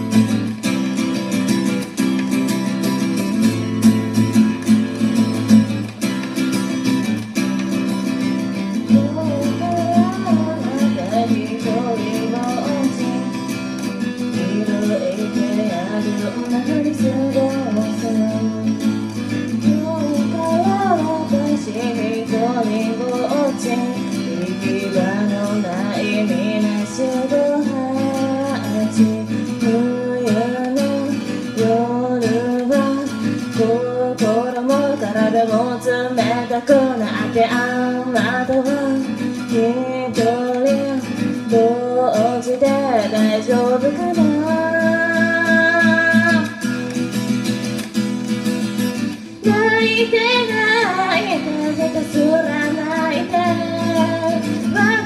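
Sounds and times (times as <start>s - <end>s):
acoustic guitar: 0.0s - 55.0s
woman singing: 0.0s - 55.0s.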